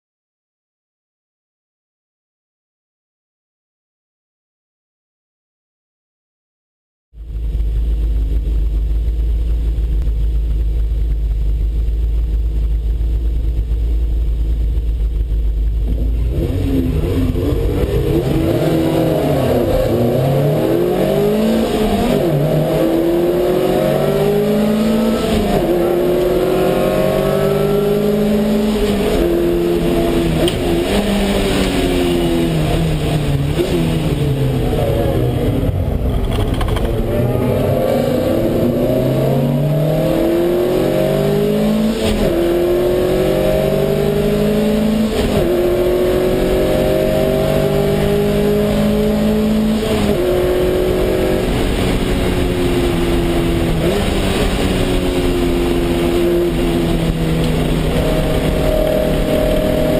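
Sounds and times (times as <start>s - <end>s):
race car engine revving: 7.2s - 59.9s
surrounding car engines: 7.2s - 59.9s.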